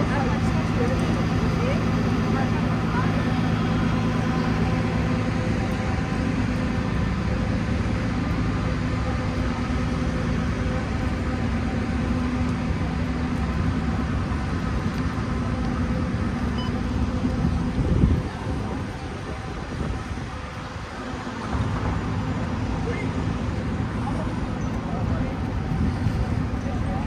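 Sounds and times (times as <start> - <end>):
road traffic noise: 0.0 - 27.0
vehicle engine hum: 0.0 - 27.0.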